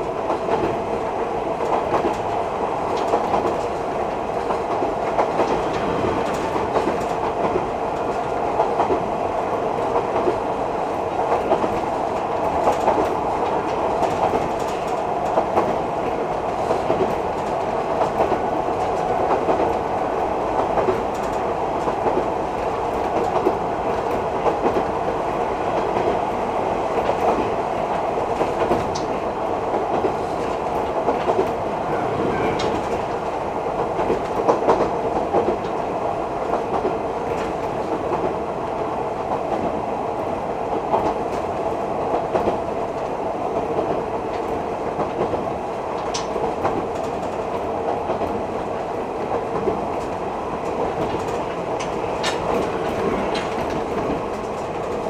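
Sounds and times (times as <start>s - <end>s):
train running noise inside car: 0.0s - 55.0s.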